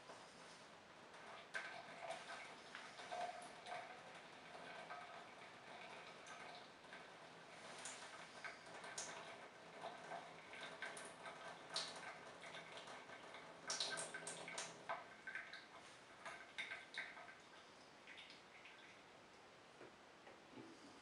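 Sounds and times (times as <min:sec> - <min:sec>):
water dripping and trickling: 0:00.0 - 0:19.2.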